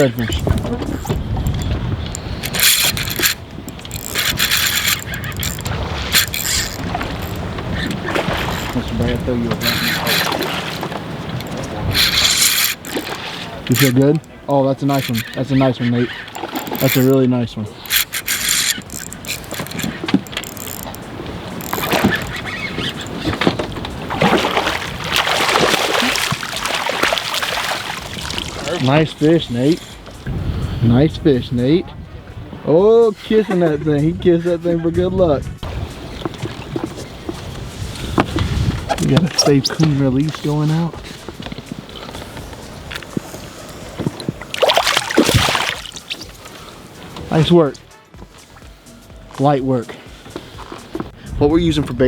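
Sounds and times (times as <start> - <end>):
water splashes: 0.0 - 30.3, 35.6 - 48.8
water noise: 0.0 - 32.8, 35.6 - 51.2
wind buffeting microphone: 0.0 - 49.2, 50.2 - 52.0.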